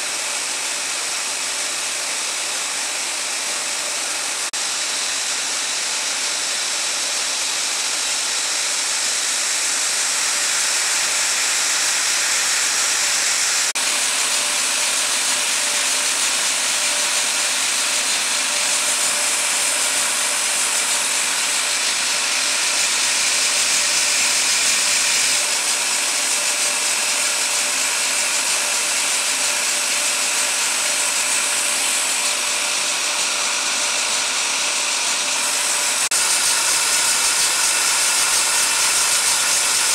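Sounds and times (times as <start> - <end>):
machine mechanical hiss: 3.9 - 39.9.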